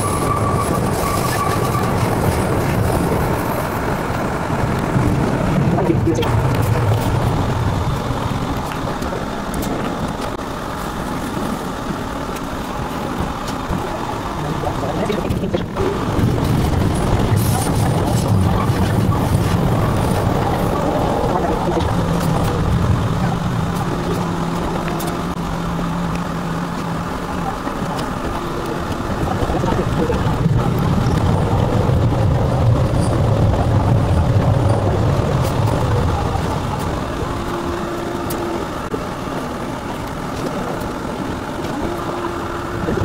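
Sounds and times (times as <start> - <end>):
low motor hum: 0.0 - 43.0
subway train rumbling on rails: 0.0 - 43.0.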